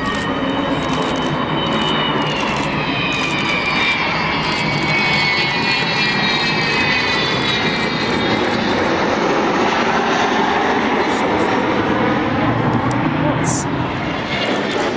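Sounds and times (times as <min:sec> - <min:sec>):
jet engines roaring: 0:00.0 - 0:14.9.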